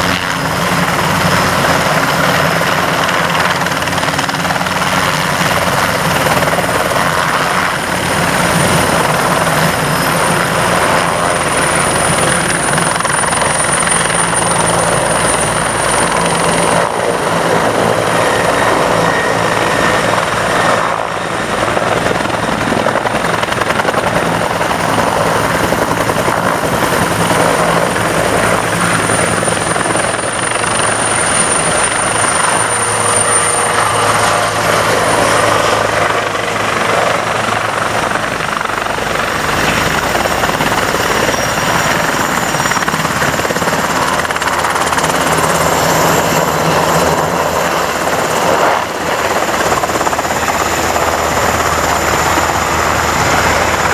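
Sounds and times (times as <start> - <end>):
helicopter rotors beating: 0.0 - 53.9
turbine whine: 0.0 - 53.9.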